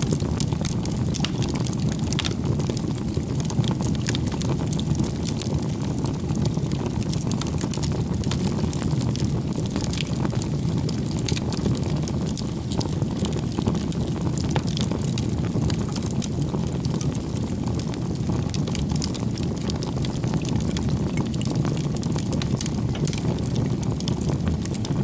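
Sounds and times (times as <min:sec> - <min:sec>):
crackles and pops of burning wood: 0:00.0 - 0:25.0
roar of bonfire flames: 0:00.0 - 0:25.0.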